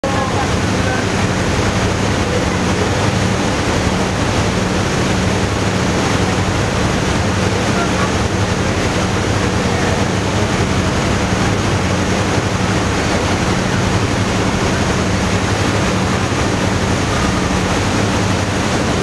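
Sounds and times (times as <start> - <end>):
boat engine humming: 0.0 - 19.0
propeller wake rushing water: 0.0 - 19.0
wind: 0.0 - 19.0.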